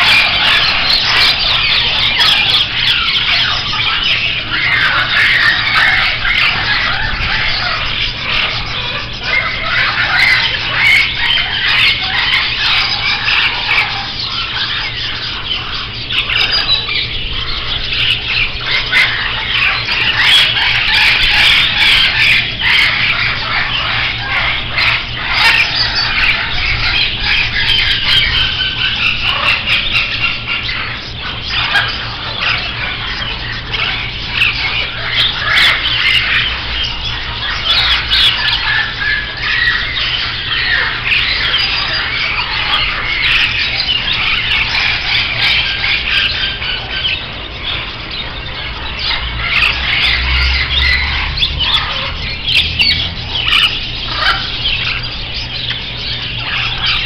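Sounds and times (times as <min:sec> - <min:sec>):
parrots and birds squawking: 0:00.0 - 0:57.0.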